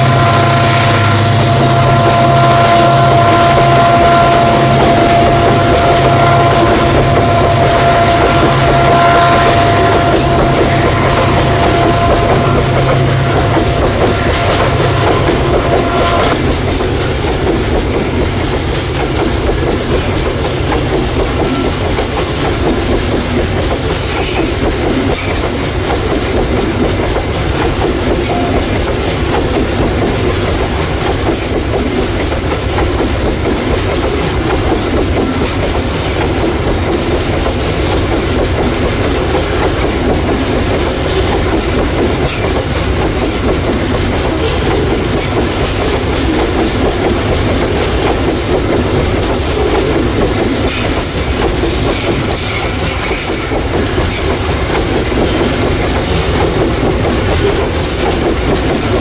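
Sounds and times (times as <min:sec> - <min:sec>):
train wheels clacking over rail joints: 0:00.0 - 0:59.0.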